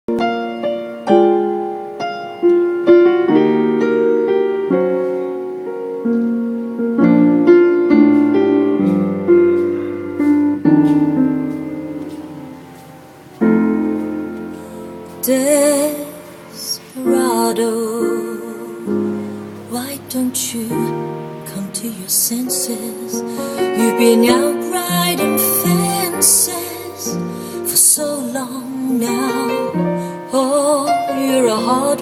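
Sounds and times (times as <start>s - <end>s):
solo piano ballad: 0.0s - 32.0s.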